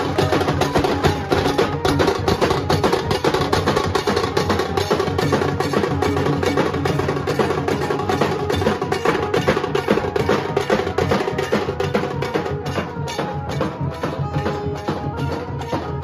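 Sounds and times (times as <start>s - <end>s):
drums beating fast rhythm: 0.0s - 16.0s.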